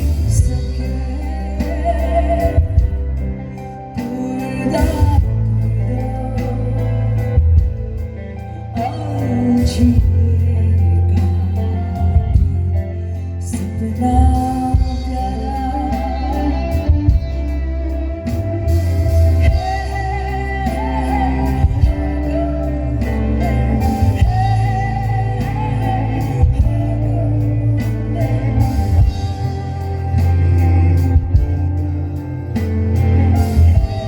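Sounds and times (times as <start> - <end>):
person singing: 0.0 - 34.0
rock band playing: 0.0 - 34.0.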